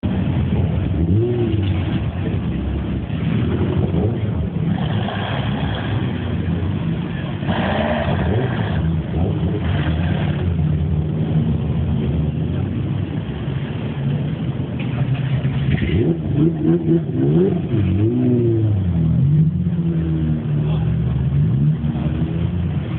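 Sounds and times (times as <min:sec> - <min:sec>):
car engines revving: 0:00.0 - 0:22.9.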